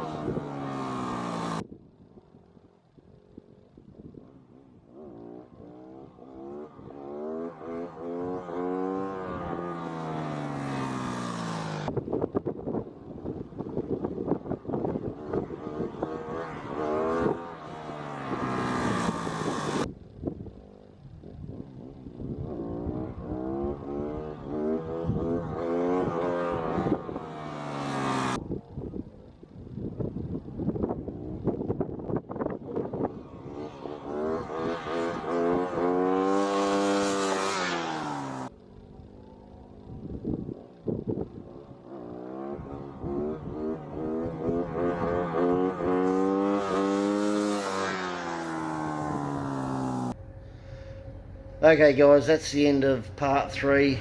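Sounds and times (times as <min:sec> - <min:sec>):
motorcycle engine revving: 0:00.0 - 0:01.7, 0:04.2 - 0:54.0.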